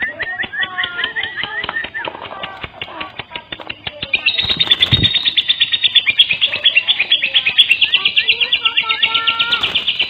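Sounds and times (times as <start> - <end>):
lovebird chattering trill: 0.0 - 10.0.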